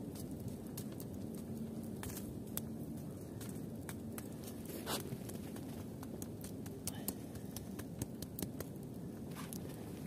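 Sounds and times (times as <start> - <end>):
embers crackling: 0.0 - 10.0
low steady background noise: 0.0 - 10.0.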